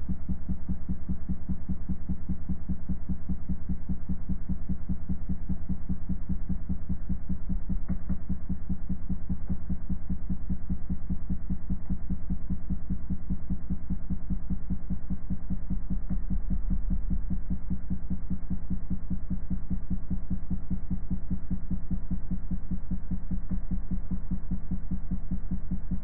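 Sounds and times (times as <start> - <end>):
throbbing low test tone: 0.0 - 26.0.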